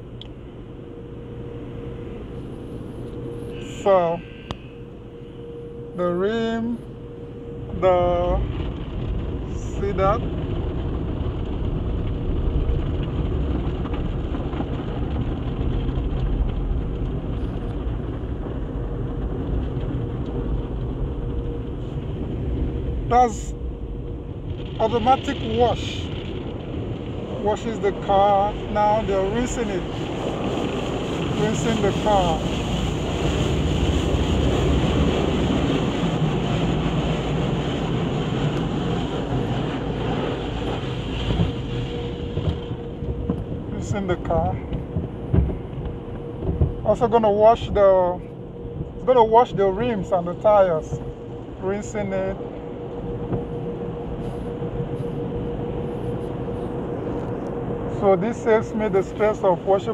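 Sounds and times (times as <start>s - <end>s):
car wash water spray and machinery: 0.0s - 59.9s.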